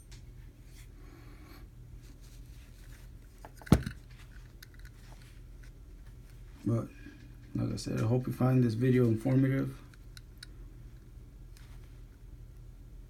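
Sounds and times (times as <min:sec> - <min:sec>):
low steady hum: 0:00.0 - 0:13.0
faint scraping and handling noises: 0:00.4 - 0:12.2.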